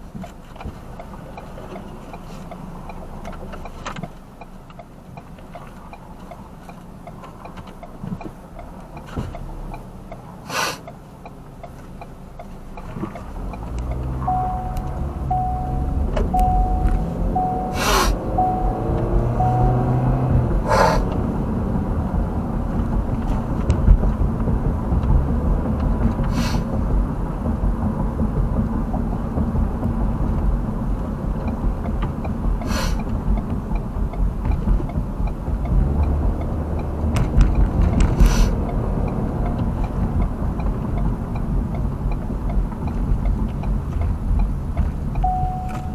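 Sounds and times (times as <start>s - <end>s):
car cabin road and engine noise: 0.0s - 45.9s.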